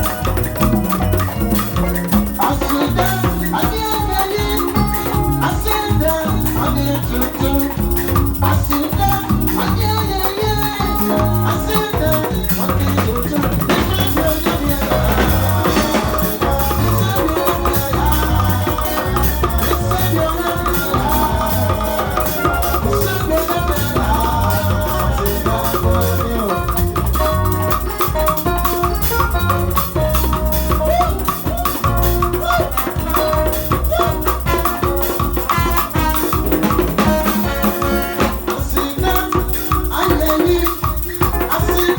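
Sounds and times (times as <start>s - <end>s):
pulsing bass beat: 0.0s - 34.5s
wavering melody line: 0.0s - 40.3s
live band music: 0.0s - 41.9s
shaker rattling: 0.0s - 41.9s.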